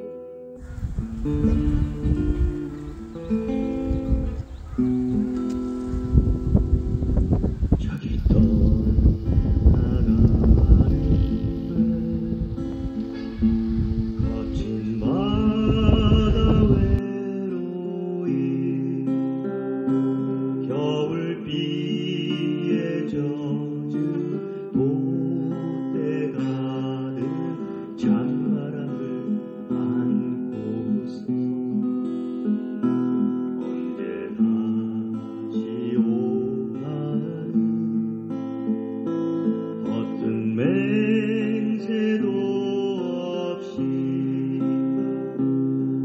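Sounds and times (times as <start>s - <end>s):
acoustic guitar music: 0.0s - 46.0s.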